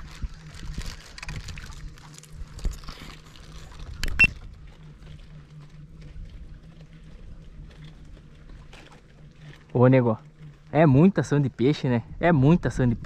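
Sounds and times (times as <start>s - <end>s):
boat motor humming: 0.0s - 13.0s
faint water noise: 0.0s - 13.0s.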